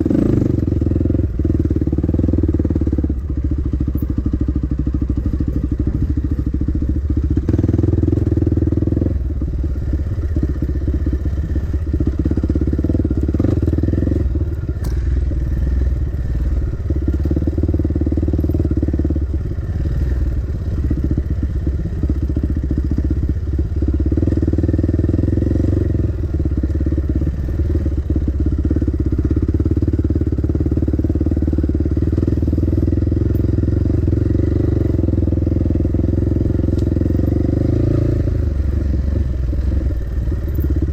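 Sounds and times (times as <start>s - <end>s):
dirt bike engine: 0.0s - 40.9s.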